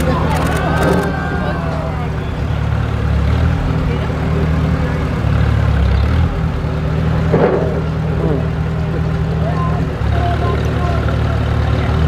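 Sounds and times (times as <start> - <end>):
tractor engine running at low speed: 0.0 - 12.0.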